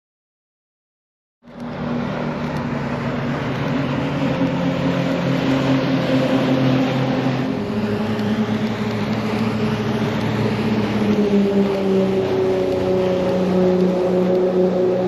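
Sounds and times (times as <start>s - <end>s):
motorboat engine droning: 1.4s - 15.0s
water rushing: 1.6s - 15.0s.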